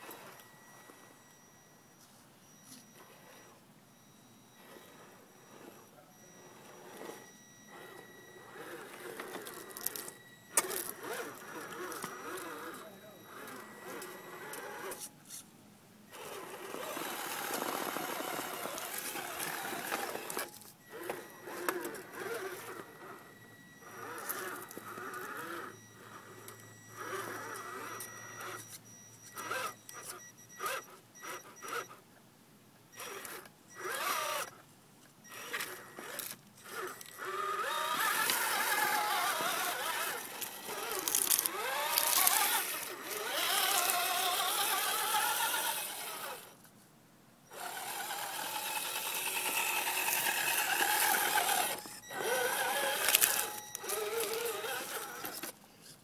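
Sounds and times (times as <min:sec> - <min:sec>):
toy car motor whining: 0:02.5 - 0:15.4, 0:16.1 - 0:32.0, 0:32.9 - 0:34.6, 0:35.2 - 0:46.6, 0:47.5 - 0:56.0.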